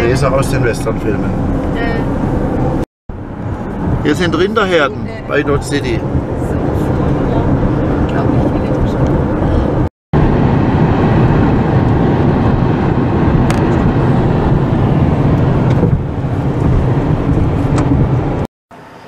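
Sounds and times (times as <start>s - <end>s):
road noise inside vehicle: 0.0s - 19.0s.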